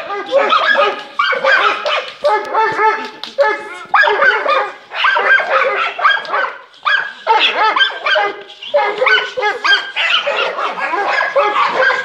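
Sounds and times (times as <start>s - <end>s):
dogs yelping: 0.0s - 3.2s, 3.9s - 12.0s
dogs barking: 0.0s - 12.0s.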